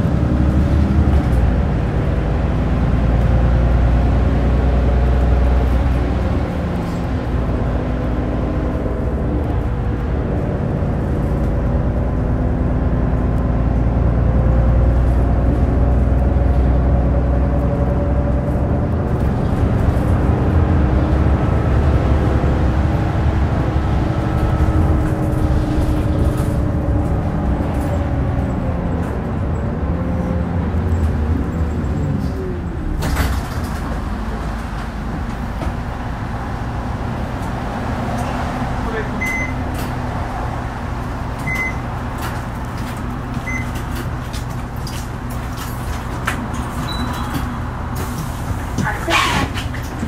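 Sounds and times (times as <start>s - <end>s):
bus diesel engine: 0.0s - 50.0s
road noise: 0.0s - 50.0s.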